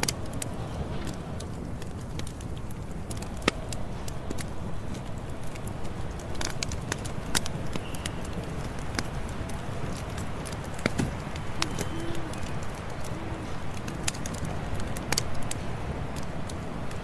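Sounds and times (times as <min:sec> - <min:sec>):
burning wood popping and snapping: 0:00.0 - 0:17.0
campfire flames rushing: 0:00.0 - 0:17.0.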